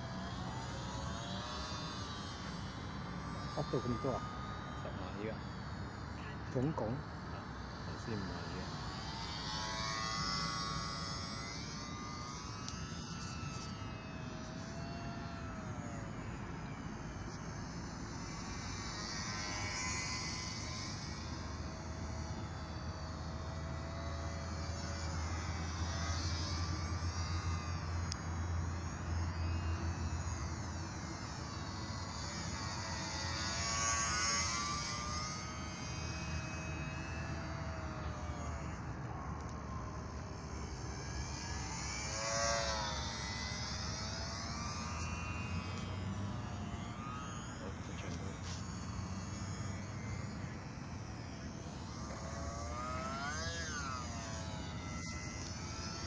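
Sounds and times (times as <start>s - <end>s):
model plane motor whining: 0.0s - 56.0s.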